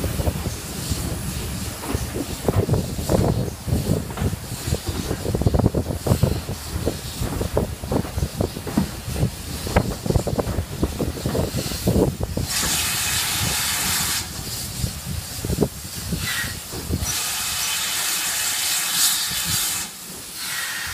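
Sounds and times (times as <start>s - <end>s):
wind buffeting: 0.0s - 17.7s
steam locomotive hissing: 0.0s - 20.9s
train rumble and knocking: 0.0s - 20.9s.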